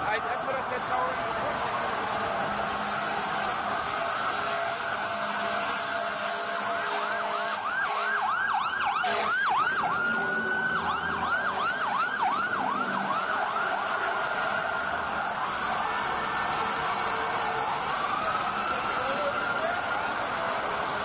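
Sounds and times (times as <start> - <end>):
emergency siren yelping: 0.0 - 21.0
street noise: 0.0 - 21.0.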